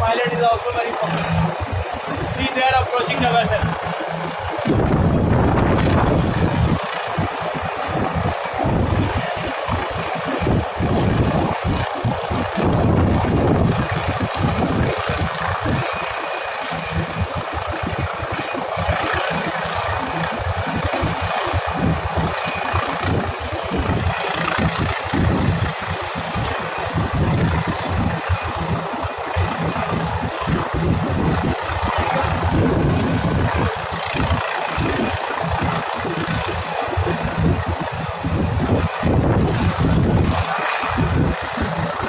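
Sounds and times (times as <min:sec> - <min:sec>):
gusting low rumble: 0:00.0 - 0:16.1, 0:16.8 - 0:42.0
helicopter rotor and engine: 0:00.0 - 0:42.0.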